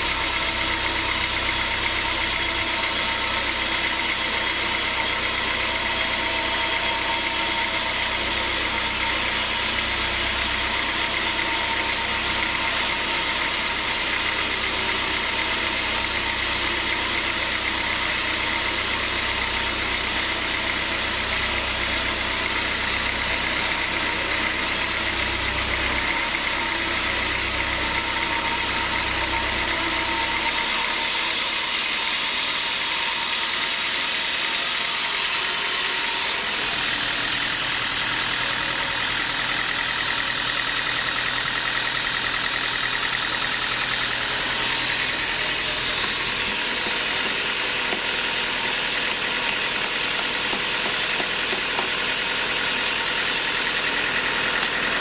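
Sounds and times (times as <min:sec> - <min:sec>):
high whine of band blade: 0:00.0 - 0:55.0
sawmill machine drone: 0:00.0 - 0:55.0.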